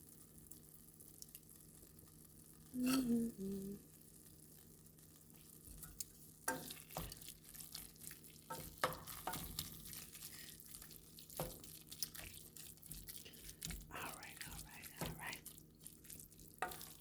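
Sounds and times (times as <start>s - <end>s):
food sizzling in hot oil: 0.0s - 17.0s
oil popping and crackling: 0.1s - 2.7s, 3.9s - 17.0s.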